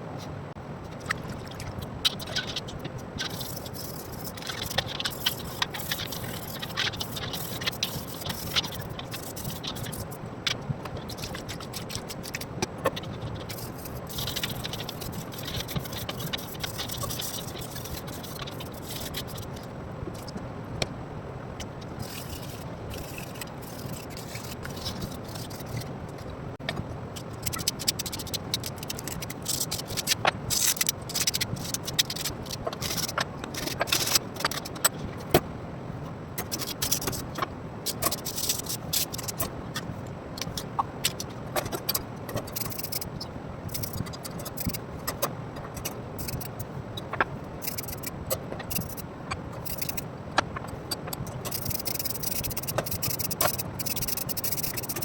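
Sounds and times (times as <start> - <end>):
scraping and rubbing of fan parts: 0.0 - 55.0.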